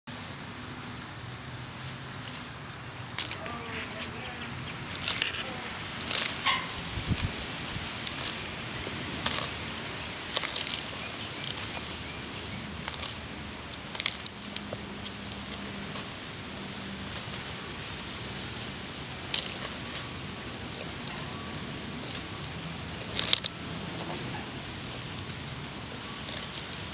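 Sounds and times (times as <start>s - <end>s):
tortoise crunching lettuce: 1.0s - 26.9s.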